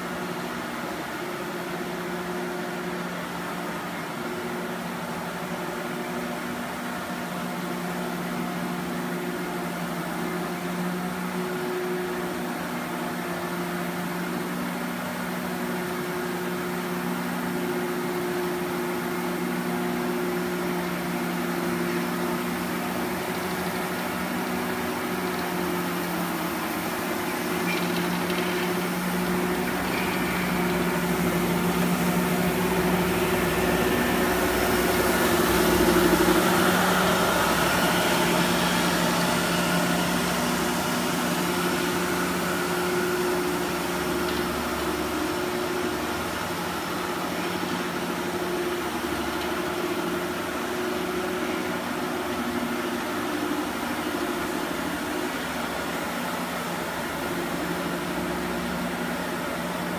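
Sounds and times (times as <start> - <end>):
floor scrubber motor humming: 0.0 - 59.9.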